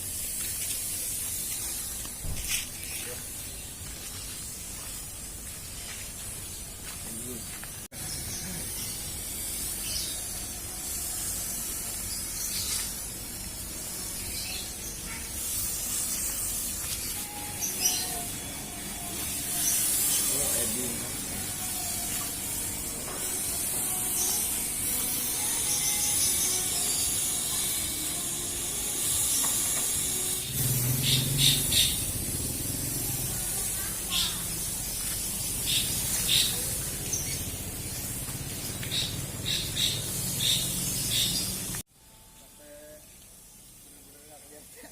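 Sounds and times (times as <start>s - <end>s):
fogging machine hissing spray: 0.0s - 41.9s, 42.6s - 44.9s.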